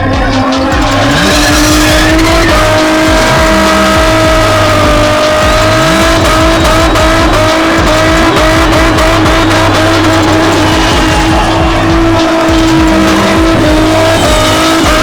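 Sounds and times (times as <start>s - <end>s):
car engine at high revs: 0.0s - 15.0s
crowd noise: 0.0s - 15.0s
tyre noise: 0.0s - 15.0s.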